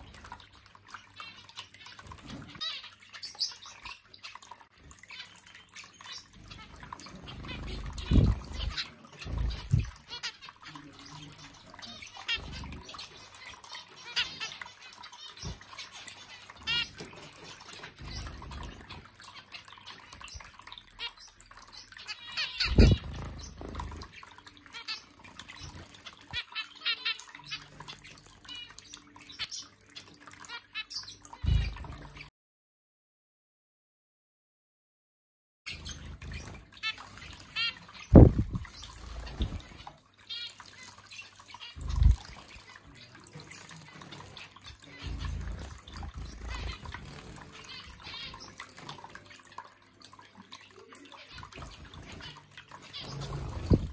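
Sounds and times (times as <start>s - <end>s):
finch chirps: 0.0s - 32.3s, 35.7s - 49.6s, 50.4s - 53.9s
fountain water trickling: 0.0s - 32.3s, 35.7s - 53.9s.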